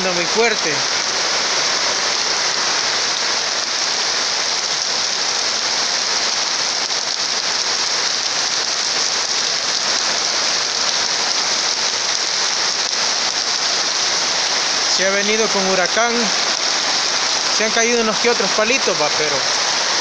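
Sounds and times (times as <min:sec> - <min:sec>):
heavy rain on metal roofs: 0:00.0 - 0:20.0.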